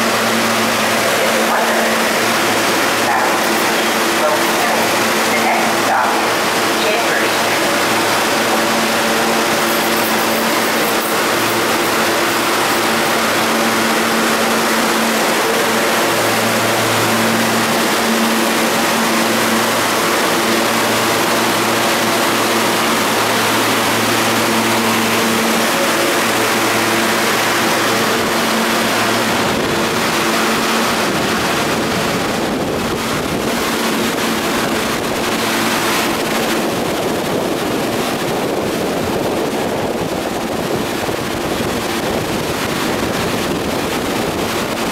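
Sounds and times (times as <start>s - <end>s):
low train hum: 0.0s - 44.9s
wheels rushing on rail: 0.0s - 44.9s.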